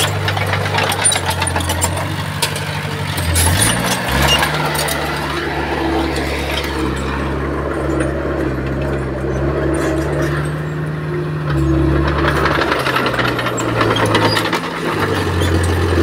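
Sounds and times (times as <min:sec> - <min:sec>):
clanking and clicks: 0:00.0 - 0:16.0
heavy diesel engine running: 0:00.0 - 0:16.0.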